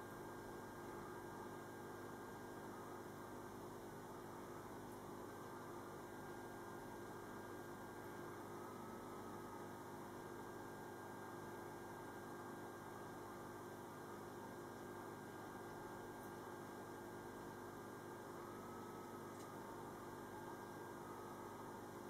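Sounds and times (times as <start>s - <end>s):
low hum of constant tones: 0.0s - 22.0s.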